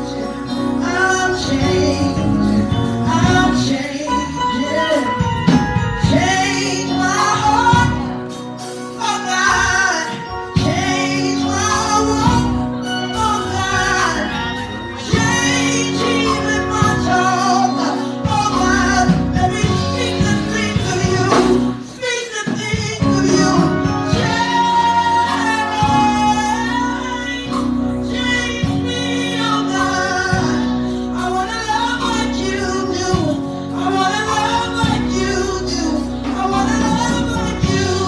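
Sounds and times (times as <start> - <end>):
gospel song with band: 0.0 - 38.0
woman singing: 0.0 - 38.0.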